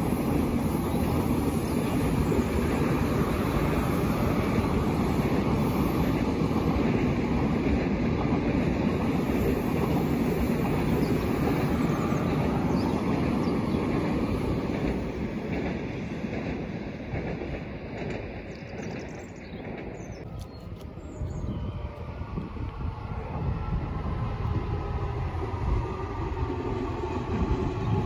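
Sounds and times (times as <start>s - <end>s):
electric train passing: 0.0s - 28.0s.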